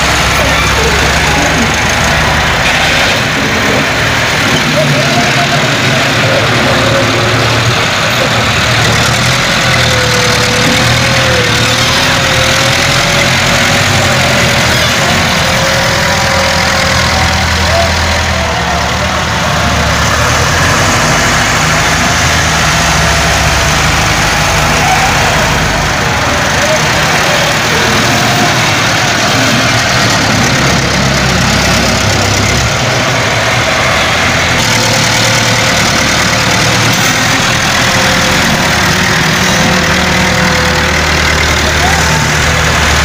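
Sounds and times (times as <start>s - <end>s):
tractor engines running under load: 0.0s - 43.0s.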